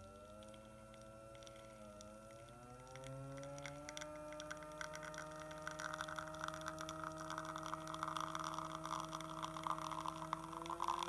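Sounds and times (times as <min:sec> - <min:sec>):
espresso machine pump humming: 0:00.0 - 0:11.0.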